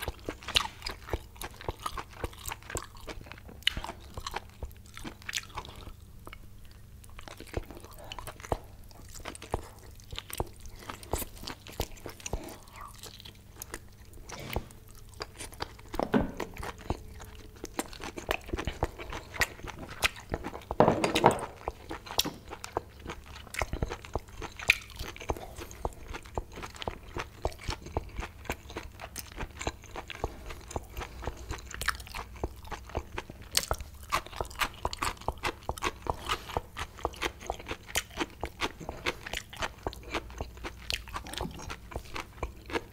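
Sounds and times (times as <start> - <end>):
wet chewing crunches: 0.0 - 42.9.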